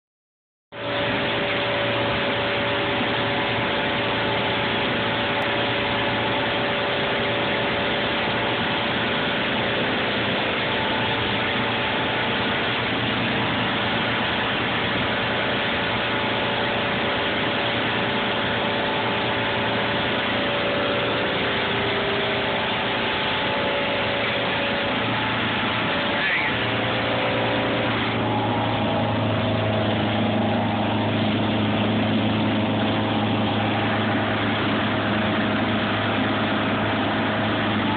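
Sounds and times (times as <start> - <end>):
outboard motor running: 0.7 - 37.9
wind: 0.7 - 37.9
rushing water hiss: 1.0 - 37.9.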